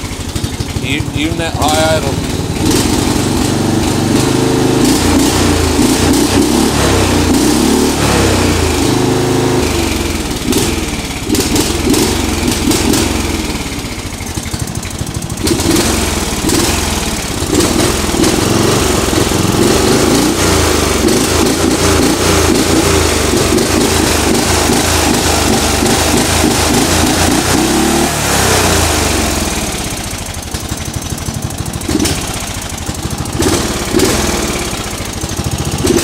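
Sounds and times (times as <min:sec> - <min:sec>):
mower engine running: 0:00.0 - 0:36.0.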